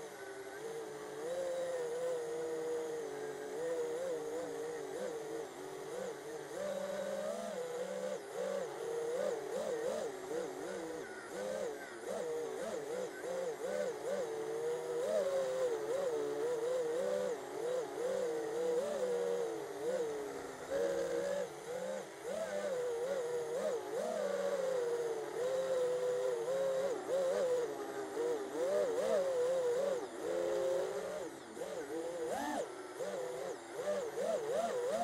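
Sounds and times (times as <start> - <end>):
quadcopter motors whining: 0.0 - 35.0.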